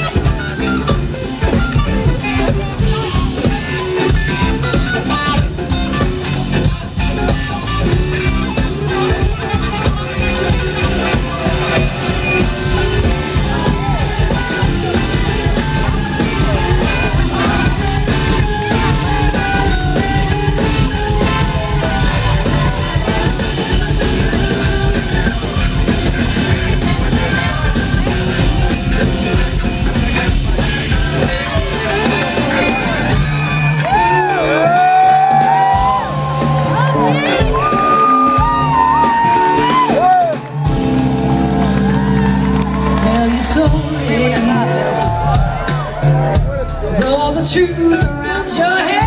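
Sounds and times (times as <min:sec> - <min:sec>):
bass: 0:00.0 - 0:49.0
drums: 0:00.0 - 0:49.0
electric guitar: 0:00.0 - 0:49.0
keyboards: 0:00.0 - 0:49.0.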